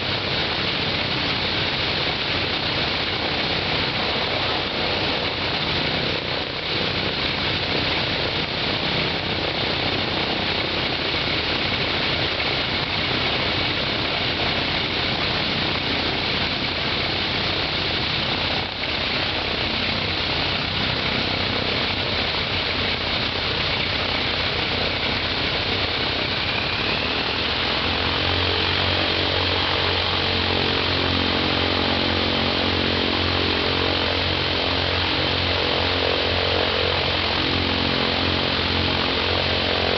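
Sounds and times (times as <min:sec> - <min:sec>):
radial aircraft engine running: 0:00.0 - 0:39.9
rising engine whine: 0:00.0 - 0:39.9.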